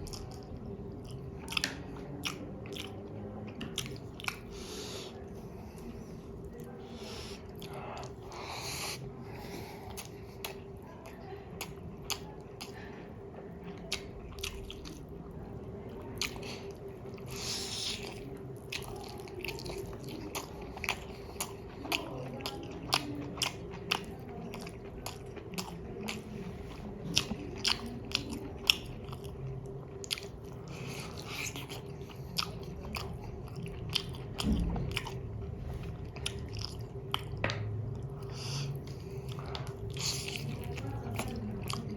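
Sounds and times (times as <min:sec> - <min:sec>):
faint steady hum: 0:00.0 - 0:41.9
person chewing food: 0:00.0 - 0:41.9.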